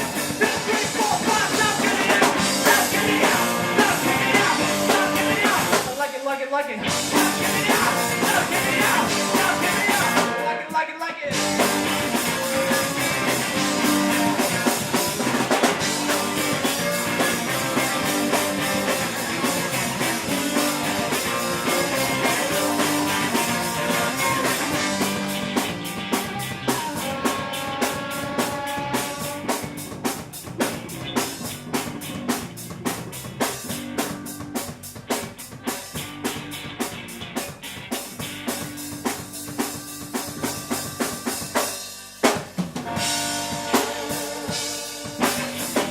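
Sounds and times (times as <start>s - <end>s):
drums steady beat: 0.0s - 45.9s
rock band playing: 0.0s - 45.9s.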